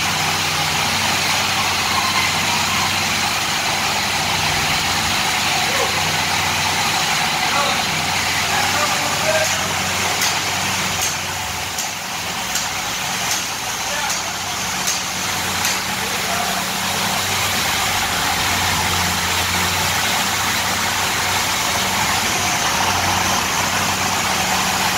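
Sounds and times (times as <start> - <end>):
forklift engine idling: 0.0 - 24.9.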